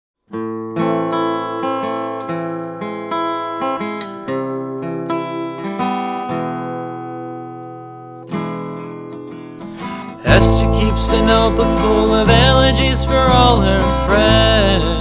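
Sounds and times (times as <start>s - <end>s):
acoustic guitar chords: 0.3s - 15.0s.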